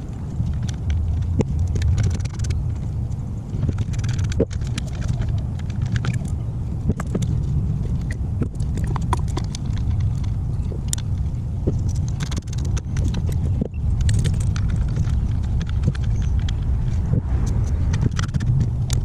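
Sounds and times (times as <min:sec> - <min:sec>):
engine ticks and knocks: 0:00.4 - 0:19.0.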